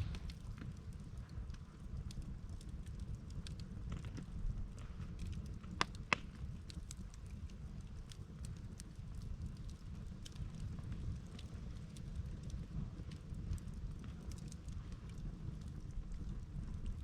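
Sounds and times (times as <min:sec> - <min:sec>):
campfire crackling: 0:00.0 - 0:17.0
low steady rumble: 0:00.0 - 0:17.0.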